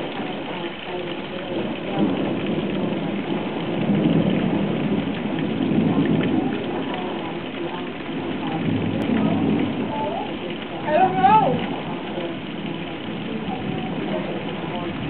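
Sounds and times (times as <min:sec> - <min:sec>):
heavy rain falling: 0:00.0 - 0:15.0
rolling thunder: 0:00.0 - 0:15.0.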